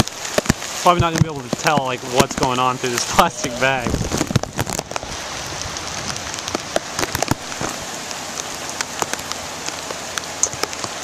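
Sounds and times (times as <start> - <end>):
raindrops ticking on plastic bag: 0.0 - 11.0
steady rain: 0.0 - 11.0.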